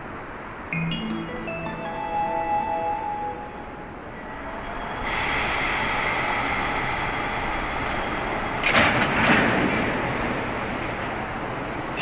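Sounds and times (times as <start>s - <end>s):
train running noise with whine: 0.0s - 12.0s.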